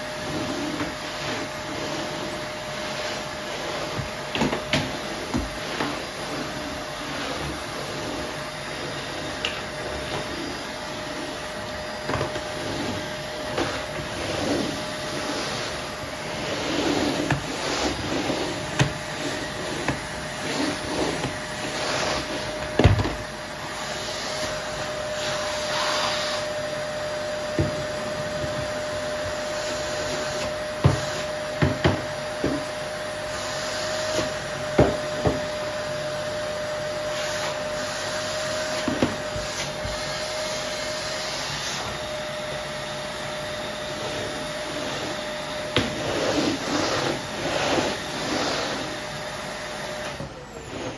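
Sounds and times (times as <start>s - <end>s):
floor brush on laminate floor: 0.0s - 50.9s
vacuum cleaner running: 0.0s - 50.9s.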